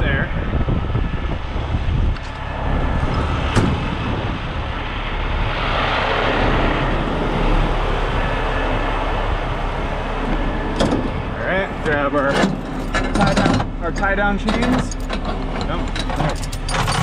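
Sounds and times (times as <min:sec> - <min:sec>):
diesel truck engine idling: 0:00.4 - 0:15.0.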